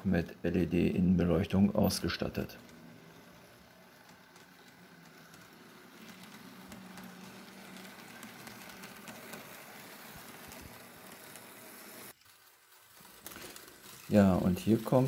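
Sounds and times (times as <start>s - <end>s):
model train motor hum: 0.0s - 15.0s
wheels clicking on rails: 0.0s - 15.0s.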